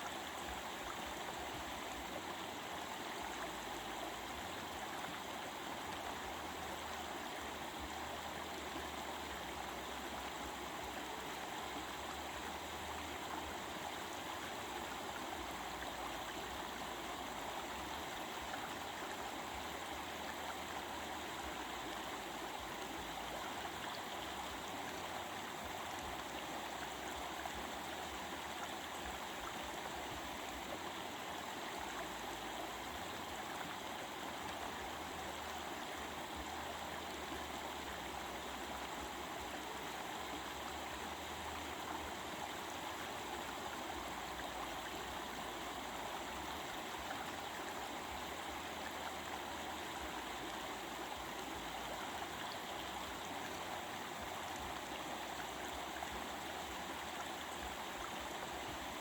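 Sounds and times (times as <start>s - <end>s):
water running over rocks: 0.0s - 59.0s.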